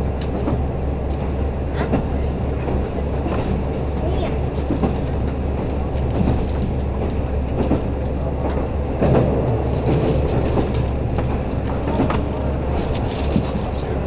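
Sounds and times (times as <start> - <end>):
railcar engine and wheels drone: 0.0 - 14.0
track clicks and rattles: 0.1 - 14.0.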